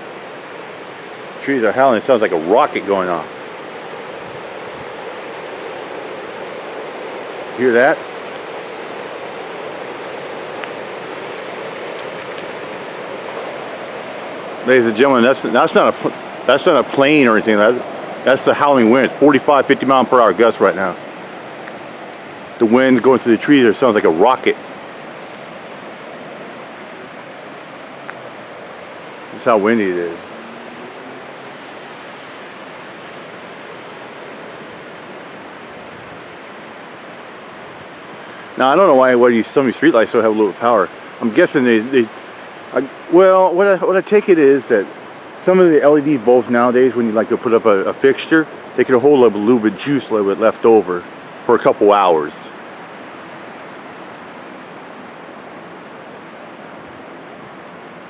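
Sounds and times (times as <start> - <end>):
strong wind roaring through trees: 0.0 - 58.0.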